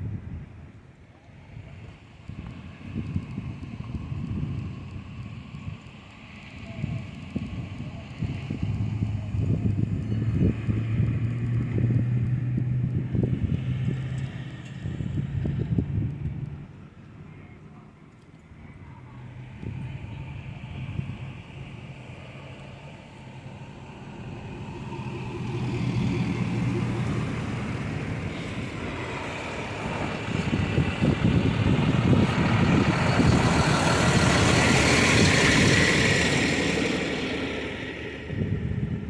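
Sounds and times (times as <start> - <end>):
vehicle engine and tyre noise: 0.0 - 39.0.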